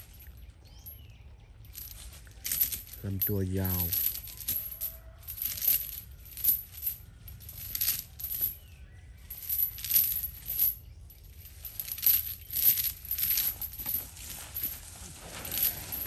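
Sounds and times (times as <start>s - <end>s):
metallic jingling and rattling: 0.0s - 16.0s.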